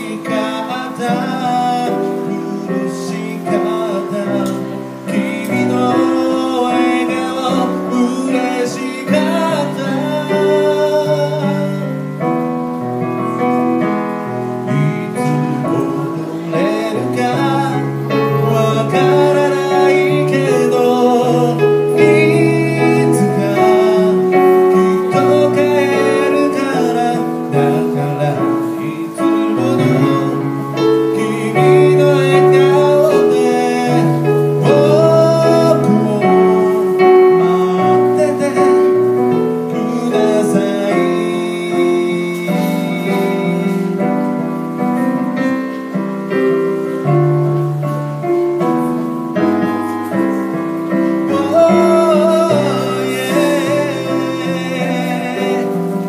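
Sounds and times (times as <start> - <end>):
electric keyboard chords: 0.0 - 56.0.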